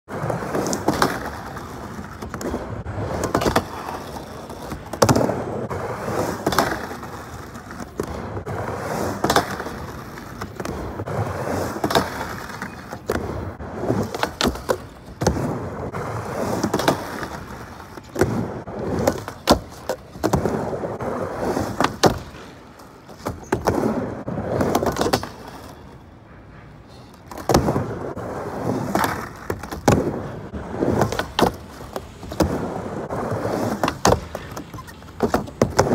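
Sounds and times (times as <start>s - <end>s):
skateboard wheels rolling: 0.1s - 35.9s
skateboard clacking on ramp: 0.2s - 35.9s.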